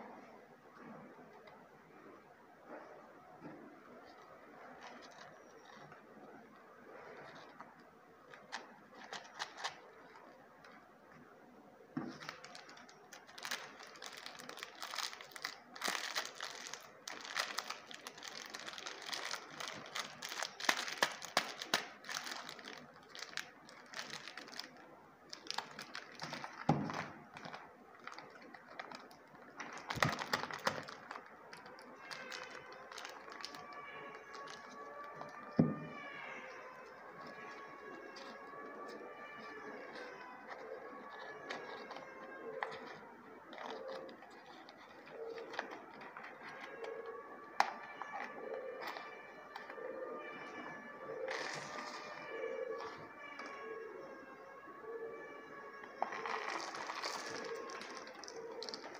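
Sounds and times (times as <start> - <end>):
candy wrappers crinkling: 4.1 - 6.1, 7.1 - 10.8, 12.1 - 49.8, 50.5 - 53.6, 55.8 - 58.9.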